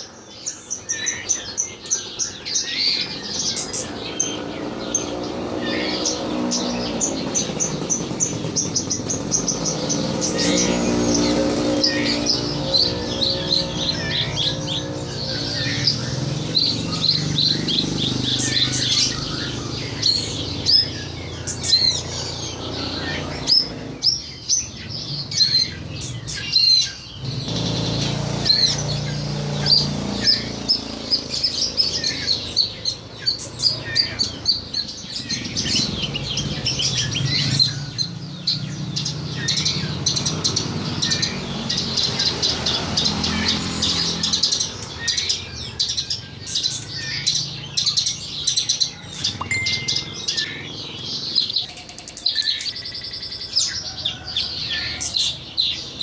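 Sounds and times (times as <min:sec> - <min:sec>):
bird singing rapid chirps: 0:00.0 - 0:56.0.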